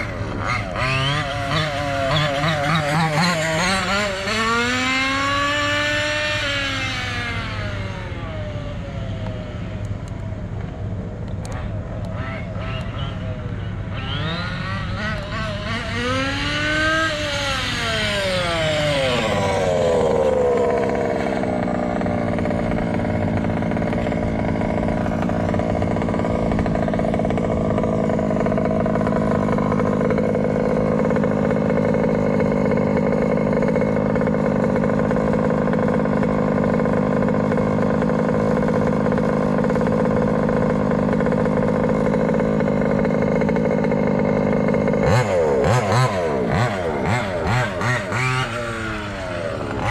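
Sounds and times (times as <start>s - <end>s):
rc car engine revving and idling: 0.0s - 49.9s.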